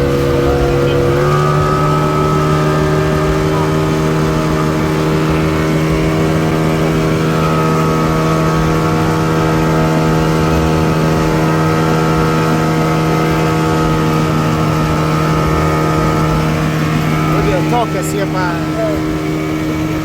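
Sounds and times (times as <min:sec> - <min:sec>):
outboard engine droning: 0:00.0 - 0:20.0.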